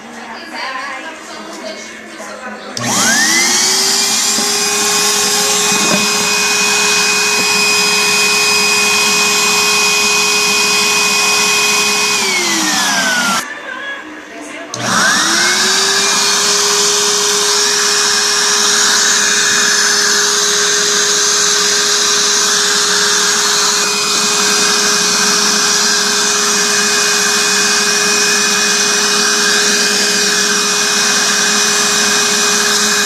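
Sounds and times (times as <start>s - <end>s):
vacuum motor whining: 2.8s - 13.4s, 14.7s - 33.0s.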